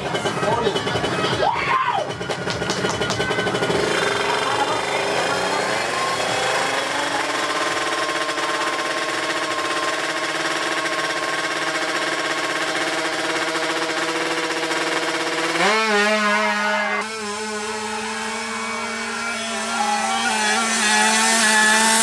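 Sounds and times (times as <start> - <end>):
two-stroke engine revving and idling: 0.0 - 22.0.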